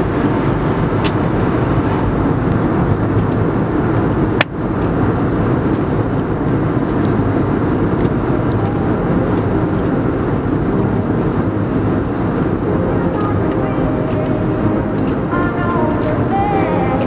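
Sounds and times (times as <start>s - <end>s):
airliner cabin engine rush: 0.0s - 17.0s.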